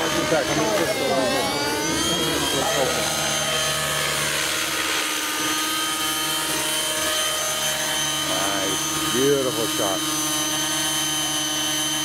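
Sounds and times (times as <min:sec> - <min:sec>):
model helicopter whine: 0:00.0 - 0:12.0.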